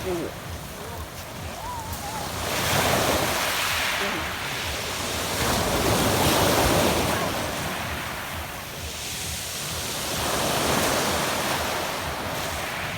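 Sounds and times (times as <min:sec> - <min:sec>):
waves breaking on pebble beach: 0:00.0 - 0:12.9.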